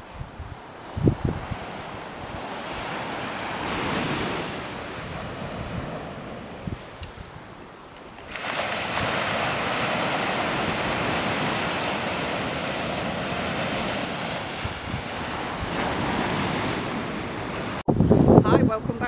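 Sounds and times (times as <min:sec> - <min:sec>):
sea surf washing up beach: 0:00.0 - 0:19.0
wind on microphone: 0:00.0 - 0:19.0.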